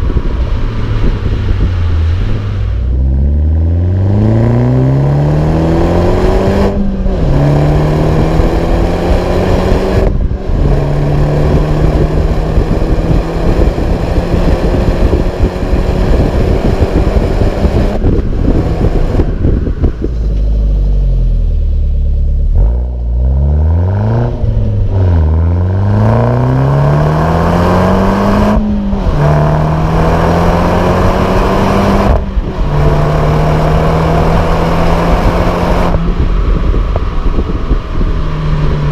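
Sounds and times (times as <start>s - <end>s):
car engine revving through gears: 0.0s - 20.1s, 22.2s - 38.9s.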